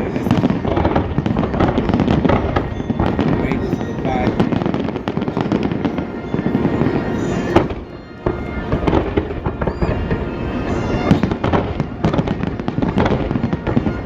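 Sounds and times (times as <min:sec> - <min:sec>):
firework whistle: 0:00.0 - 0:14.0
fireworks bangs and crackling: 0:00.0 - 0:14.0.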